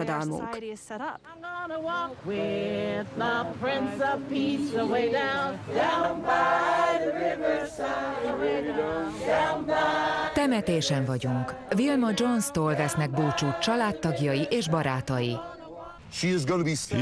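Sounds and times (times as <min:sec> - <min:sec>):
group singing unaccompanied: 0:00.0 - 0:00.6, 0:01.3 - 0:16.2.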